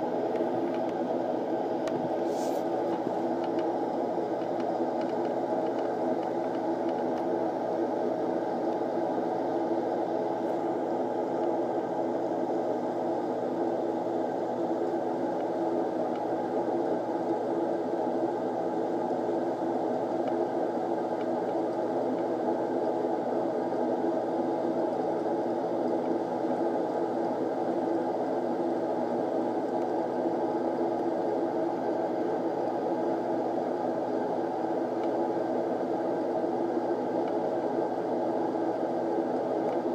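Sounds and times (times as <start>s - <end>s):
low hum of held tones: 0.0s - 39.9s.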